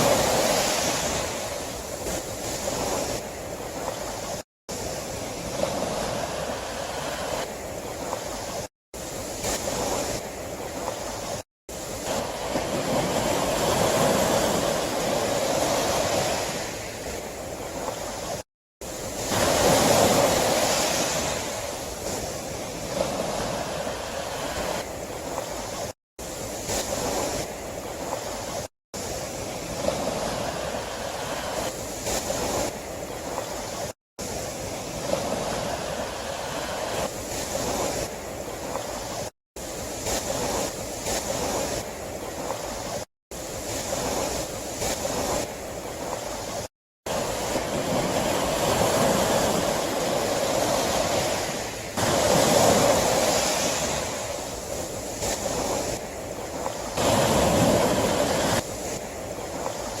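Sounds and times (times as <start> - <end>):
sea waves washing on shore: 0.0 - 60.0.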